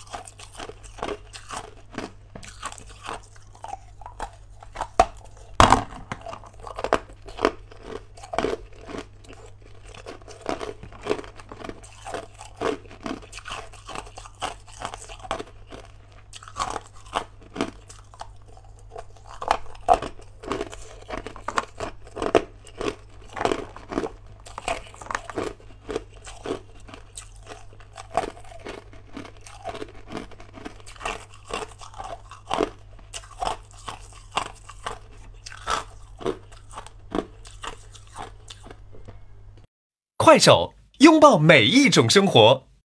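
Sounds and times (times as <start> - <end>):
ice crunched between teeth: 0.0 - 38.8.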